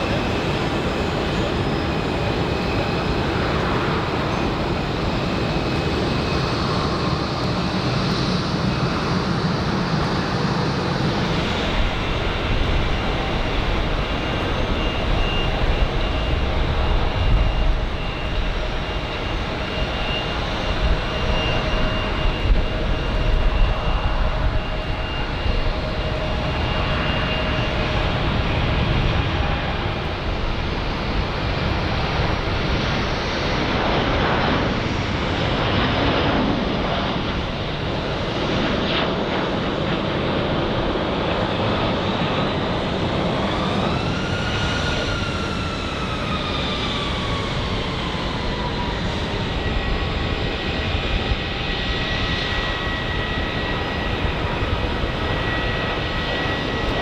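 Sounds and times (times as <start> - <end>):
high jet whine: 0.0 - 57.0
jet engines roaring: 0.0 - 57.0.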